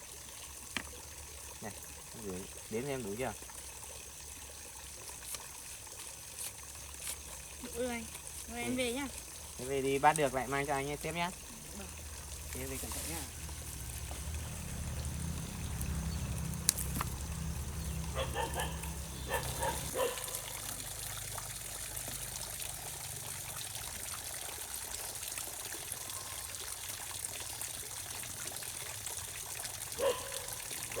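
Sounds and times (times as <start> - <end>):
water trickling: 0.0 - 31.0.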